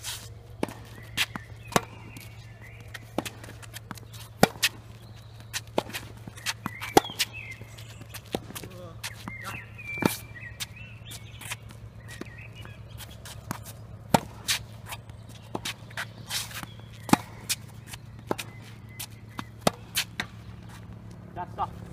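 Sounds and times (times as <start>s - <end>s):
footsteps on hard court: 0.0s - 21.9s
steady low hum: 0.0s - 21.9s
tennis balls bouncing and hit: 0.0s - 21.9s.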